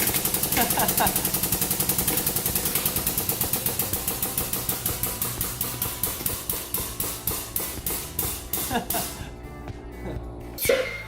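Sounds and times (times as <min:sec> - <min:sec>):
hydraulic press rhythmic knocking: 0:00.0 - 0:10.3.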